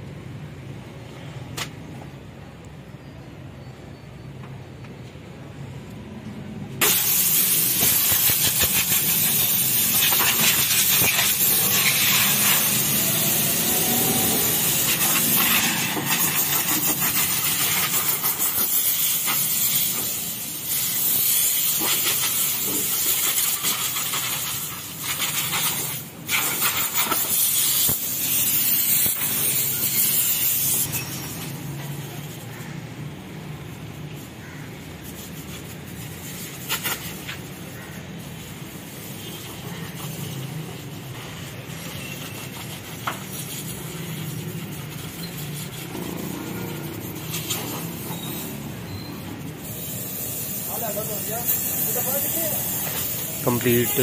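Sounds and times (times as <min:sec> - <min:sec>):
high-pressure nozzle hissing: 0:06.8 - 0:32.6, 0:34.2 - 0:54.0.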